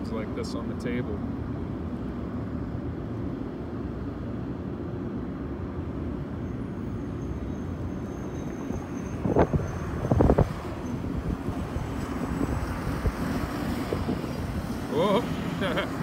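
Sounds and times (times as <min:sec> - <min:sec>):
distant traffic: 0:00.0 - 0:16.0
wind: 0:00.0 - 0:16.0.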